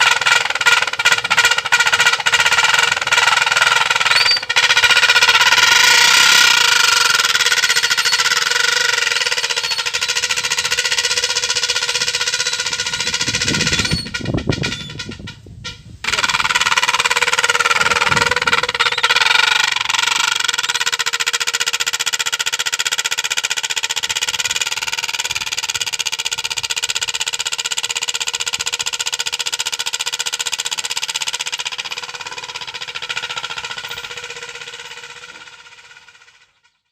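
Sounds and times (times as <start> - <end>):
motorcycle engine pulsing tone: 0.0 - 36.9.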